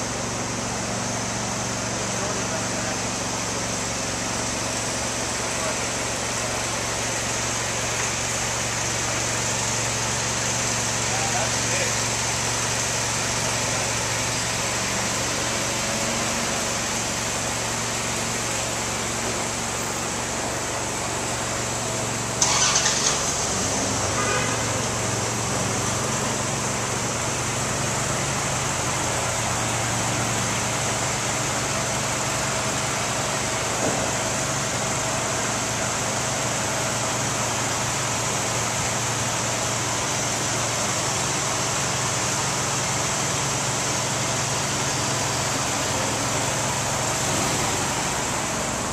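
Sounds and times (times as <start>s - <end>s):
city street noise: 0.0s - 48.9s
vehicle engine humming: 0.0s - 48.9s.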